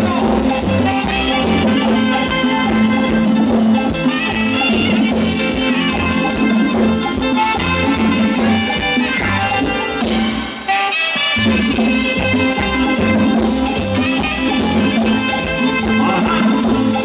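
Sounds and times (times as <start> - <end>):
bass guitar: 0.0 - 17.0
keyboard: 0.0 - 17.0
latin percussion: 0.0 - 17.0
tropical dance band playing: 0.0 - 17.0.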